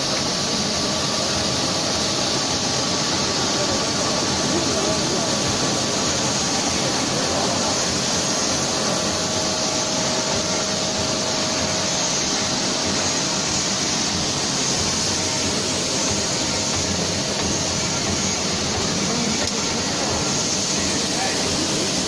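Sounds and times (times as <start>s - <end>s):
extrusion machine hiss and whir: 0.0s - 22.0s.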